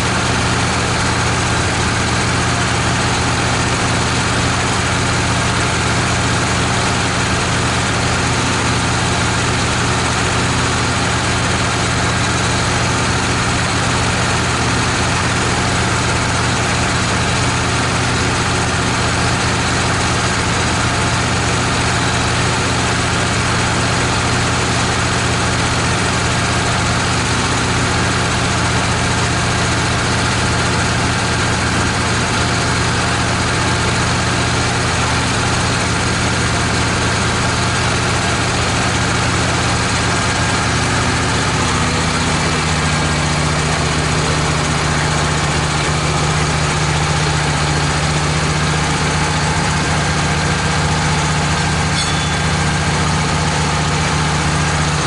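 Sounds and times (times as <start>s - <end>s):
bandsaw mill droning: 0.0s - 55.0s.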